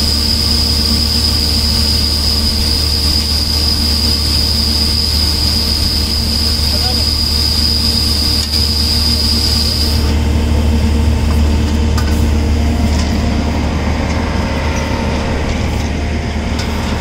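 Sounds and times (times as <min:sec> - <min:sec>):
heavy engine droning: 0:00.0 - 0:17.0.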